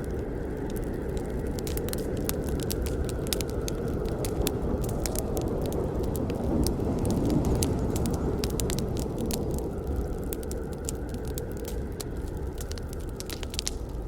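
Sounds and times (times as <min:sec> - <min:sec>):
burning wood crackling and popping: 0:00.0 - 0:14.0
flames rushing: 0:00.0 - 0:14.0.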